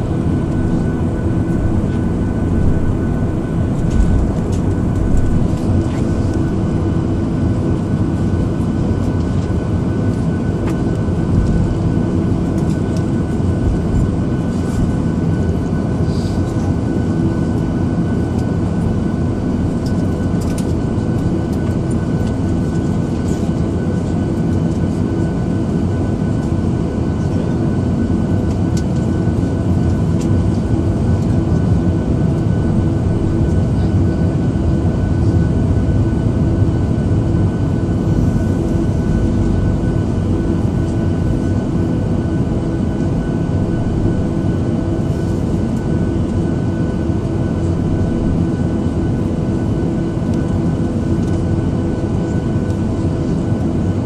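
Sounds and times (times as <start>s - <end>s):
jet engines humming: 0.0s - 54.0s
steady whine: 0.0s - 54.0s.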